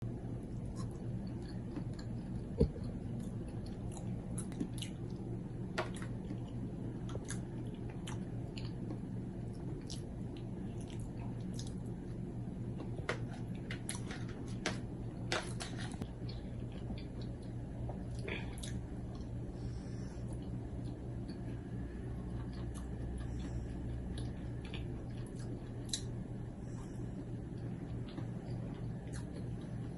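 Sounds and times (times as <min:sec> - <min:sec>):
low hum: 0:00.0 - 0:29.9.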